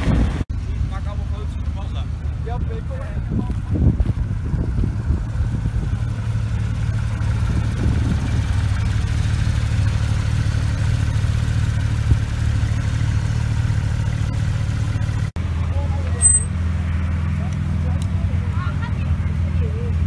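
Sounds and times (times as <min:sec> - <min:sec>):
car engine deep rumble: 0:00.0 - 0:20.0.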